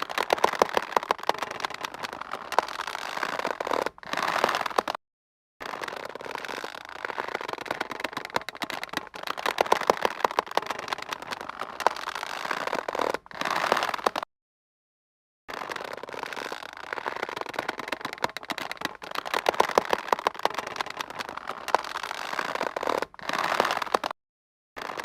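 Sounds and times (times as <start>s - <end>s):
rope creaking under strain: 0.0s - 5.0s, 5.6s - 14.3s, 15.5s - 24.2s, 24.8s - 25.0s.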